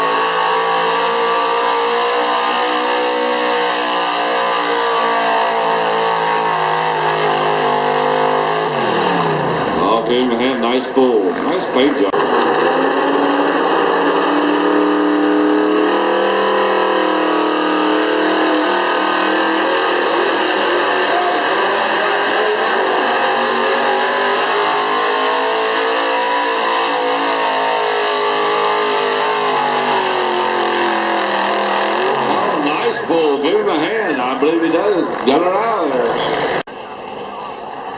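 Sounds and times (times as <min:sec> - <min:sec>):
pickup engine at high revs: 0:00.0 - 0:36.7.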